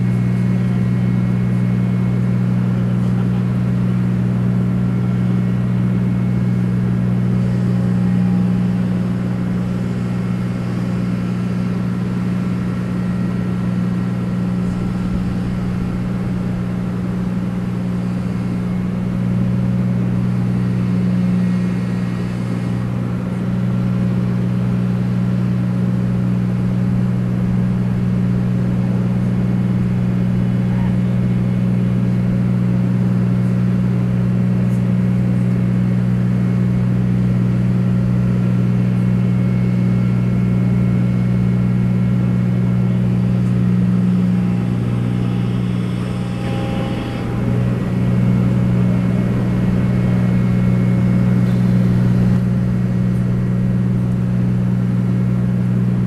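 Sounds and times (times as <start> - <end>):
large engine humming: 0.0 - 56.0.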